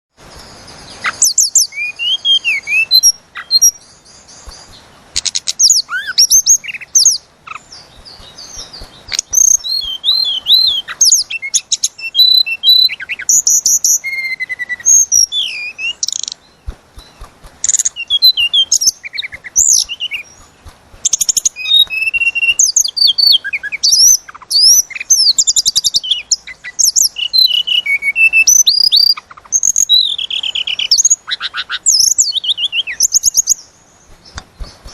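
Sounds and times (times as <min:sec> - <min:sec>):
songbird whistling and trilling: 0:00.9 - 0:34.9.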